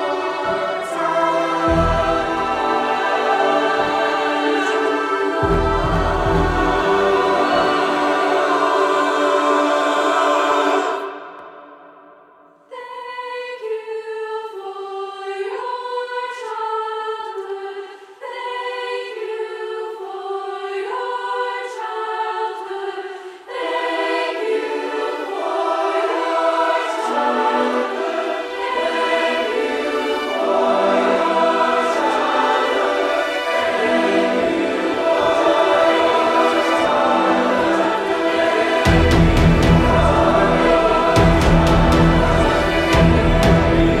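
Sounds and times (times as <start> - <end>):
choir singing without words: 0.0 - 44.0.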